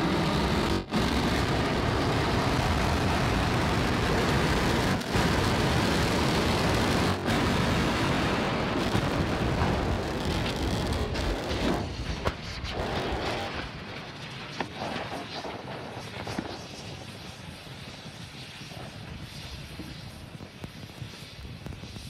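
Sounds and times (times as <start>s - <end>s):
rocket engines rumbling: 0.0s - 22.0s.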